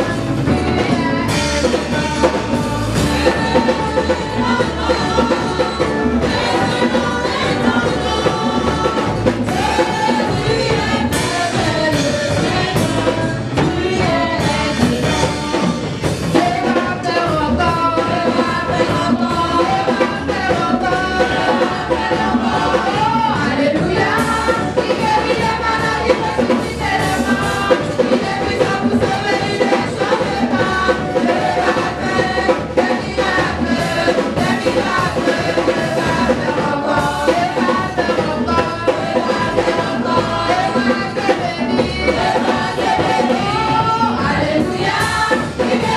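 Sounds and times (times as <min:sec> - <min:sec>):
band with drum kit: 0:00.0 - 0:45.9
women singing gospel: 0:00.0 - 0:45.9.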